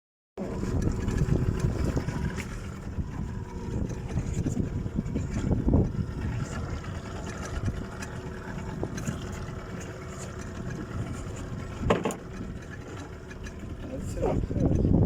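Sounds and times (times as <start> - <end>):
boat engine running: 0.4 - 15.0.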